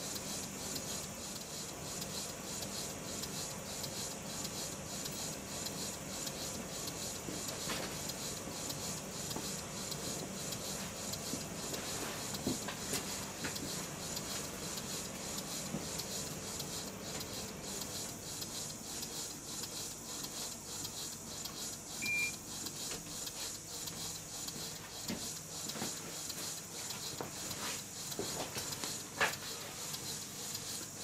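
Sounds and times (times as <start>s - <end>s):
model engine running with clicks: 0.0s - 31.0s.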